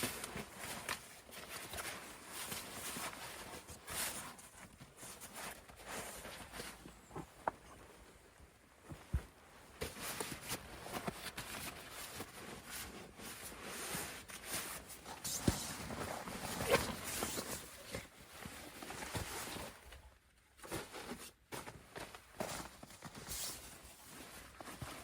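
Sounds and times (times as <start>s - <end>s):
rustling and light knocks: 0.0s - 25.0s.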